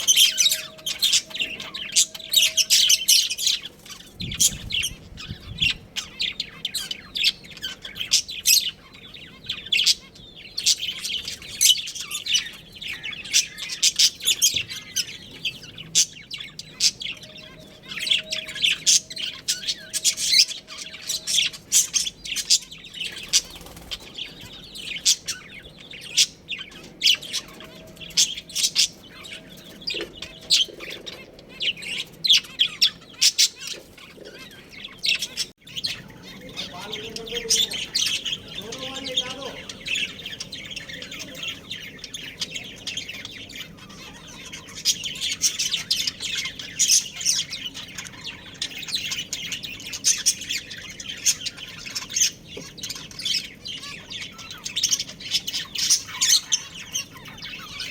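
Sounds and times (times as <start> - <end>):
budgerigars chirping: 0.0 - 57.9.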